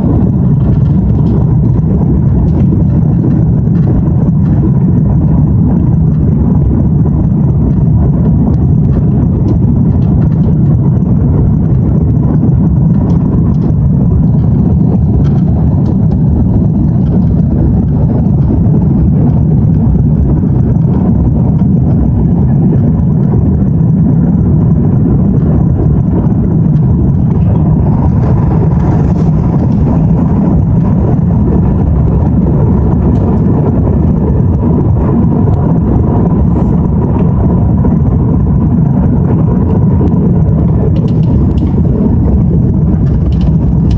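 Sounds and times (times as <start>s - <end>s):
faint steady engine whine: 0.0s - 43.9s
jet engine rumble in cabin: 0.0s - 43.9s.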